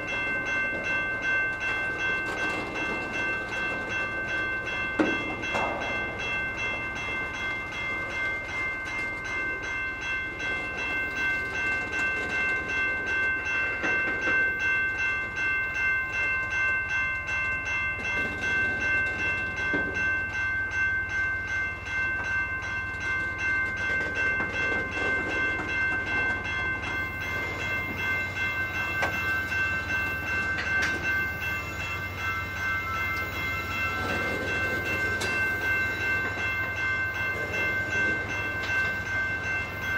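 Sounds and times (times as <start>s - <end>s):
crossing warning bell ringing: 0.0s - 39.9s
freight train rolling past: 0.0s - 39.9s.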